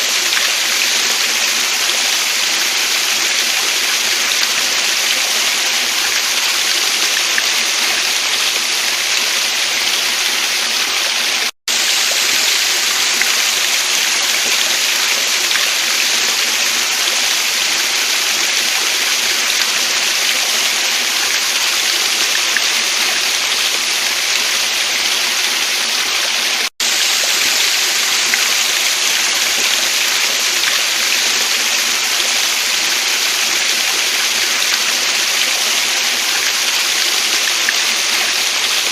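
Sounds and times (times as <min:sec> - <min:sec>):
stream and waterfall rushing: 0:00.0 - 0:38.9.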